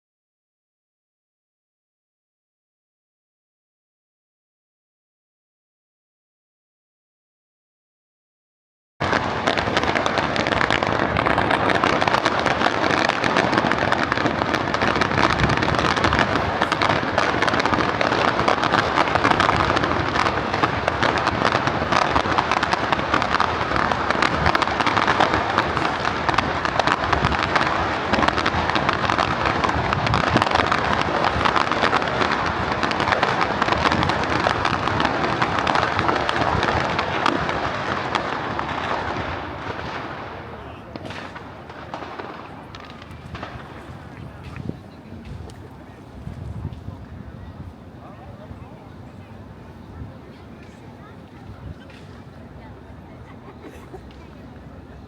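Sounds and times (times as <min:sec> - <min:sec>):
fireworks bangs and crackling: 0:09.0 - 0:55.0.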